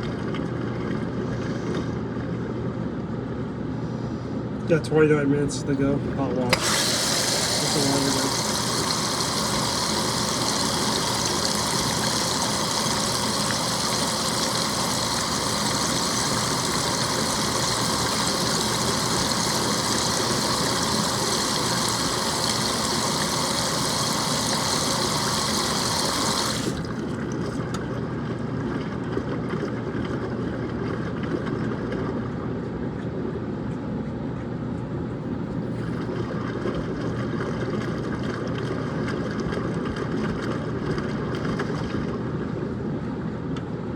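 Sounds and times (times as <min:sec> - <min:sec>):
water rushing into washing machine: 0:00.0 - 0:02.0, 0:05.7 - 0:32.4, 0:35.6 - 0:42.4
washing machine low hum: 0:00.0 - 0:43.9.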